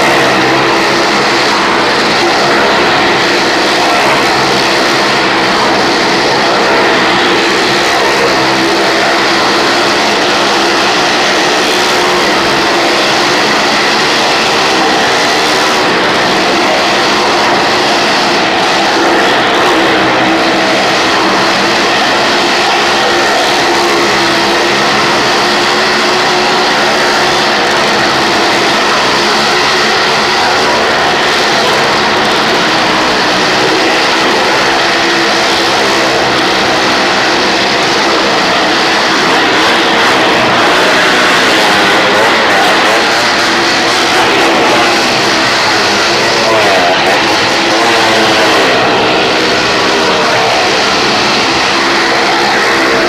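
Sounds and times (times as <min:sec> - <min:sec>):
motorcycle and car engines revving: 0:00.0 - 0:53.0.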